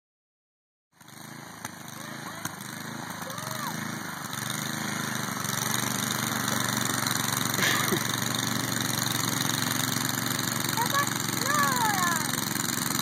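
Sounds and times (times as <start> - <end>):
small engine running: 1.0 - 13.0.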